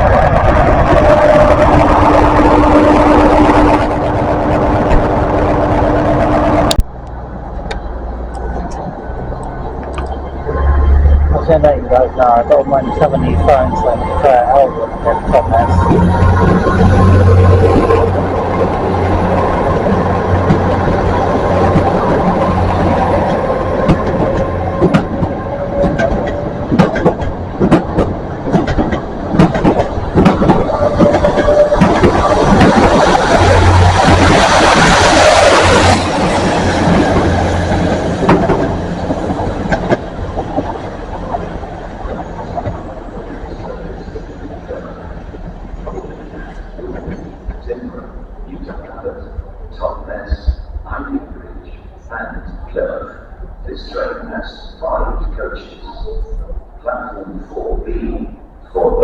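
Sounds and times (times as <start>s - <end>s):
rushing noise: 0.0s - 59.0s
train diesel engine humming: 0.0s - 59.0s.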